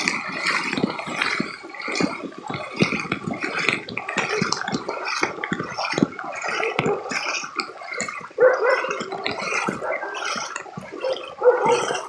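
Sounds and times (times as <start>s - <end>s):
floodwater sloshing and gurgling: 0.0s - 12.0s
water splashes: 0.0s - 12.0s.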